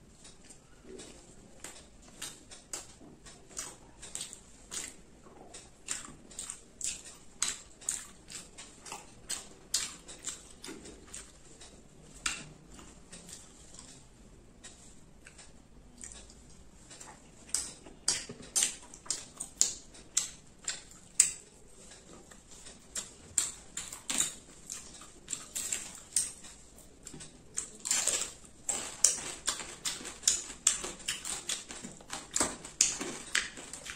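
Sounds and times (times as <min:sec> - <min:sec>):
chewing with lip-smacking: 0:00.2 - 0:14.1, 0:14.7 - 0:33.9.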